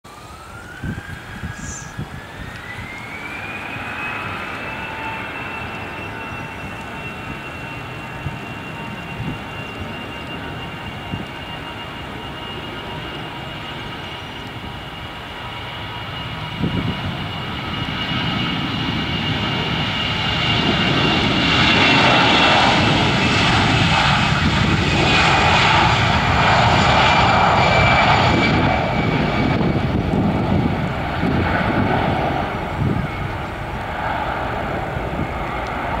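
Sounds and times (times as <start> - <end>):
jet engines at take-off thrust: 0.0 - 36.0.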